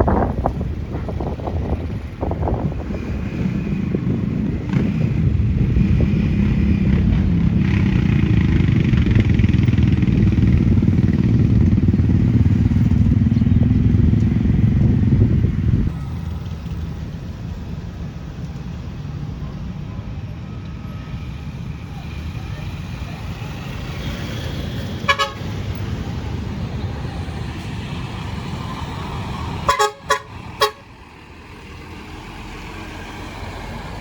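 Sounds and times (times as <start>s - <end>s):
large vehicle engine rumbling: 0.0s - 34.0s.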